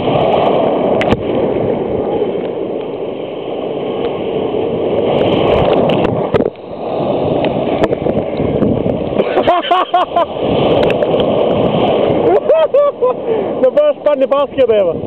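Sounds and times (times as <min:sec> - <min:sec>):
surf breaking: 0:00.0 - 0:15.0
water splashing over camera: 0:00.0 - 0:15.0.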